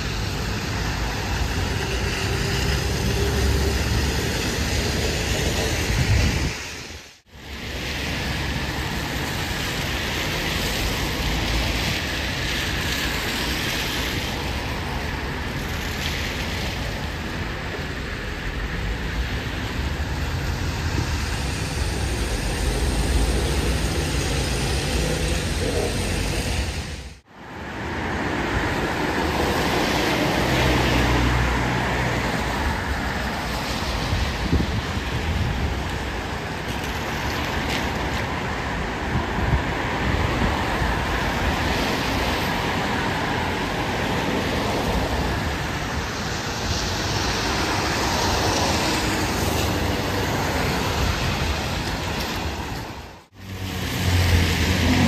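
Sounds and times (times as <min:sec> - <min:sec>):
tyre noise on wet road: 0:00.0 - 0:55.0.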